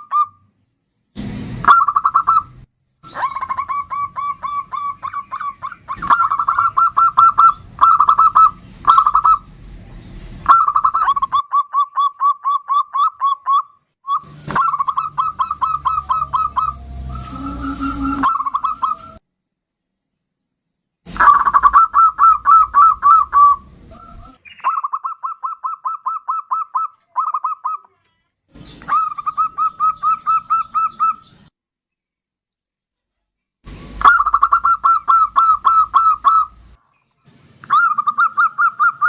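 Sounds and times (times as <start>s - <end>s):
dove calling staccato notes: 1.3s - 19.2s, 21.1s - 28.0s, 28.6s - 31.5s, 33.8s - 36.8s, 37.6s - 39.0s.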